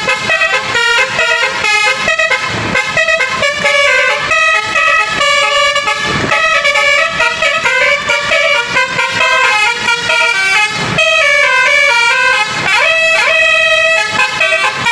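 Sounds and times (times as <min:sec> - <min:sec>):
multi-tone air horn tune: 0:00.0 - 0:14.9.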